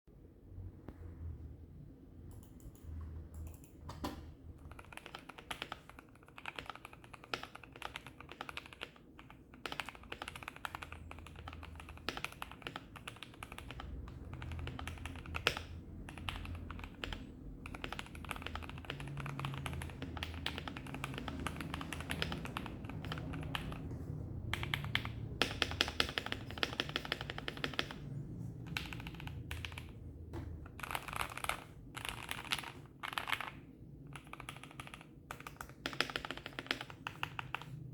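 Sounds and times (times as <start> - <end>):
mechanical keyboard typing: 2.3 - 37.9.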